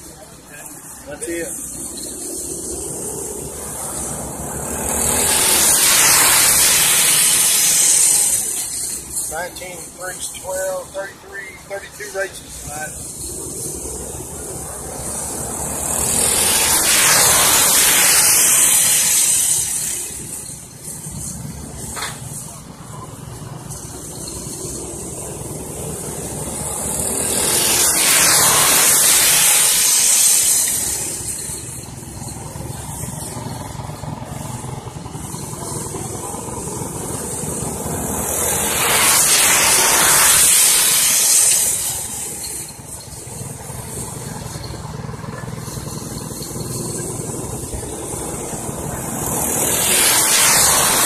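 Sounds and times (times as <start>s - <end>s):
go-kart engines passing: 0.0s - 51.0s.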